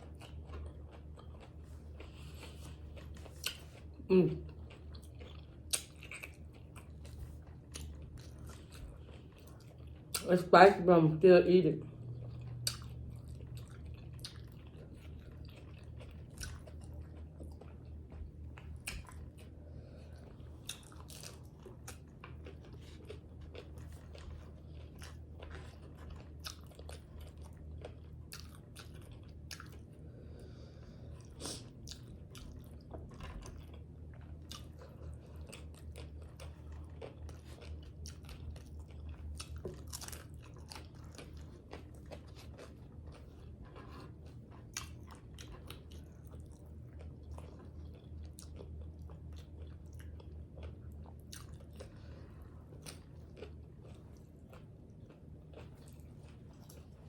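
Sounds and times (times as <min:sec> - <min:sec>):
person chewing and crunching: 0:00.0 - 0:10.4, 0:11.8 - 0:57.0
steady low hum: 0:00.0 - 0:57.0.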